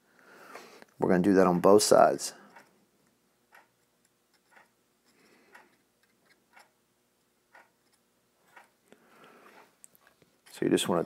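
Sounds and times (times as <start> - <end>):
faint regular ticking: 2.0 - 10.8.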